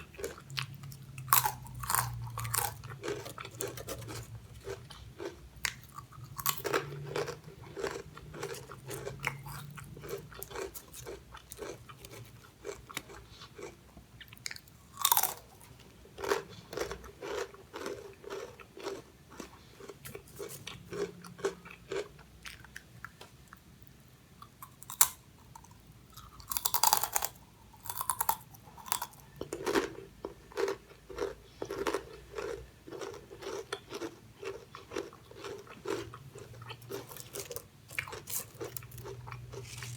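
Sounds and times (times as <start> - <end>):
chewing crunchy chips: 0.0 - 39.9.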